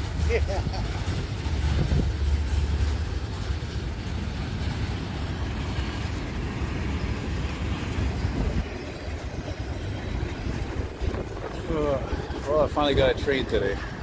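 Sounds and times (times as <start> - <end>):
freight train rumbling on rails: 0.0 - 14.0.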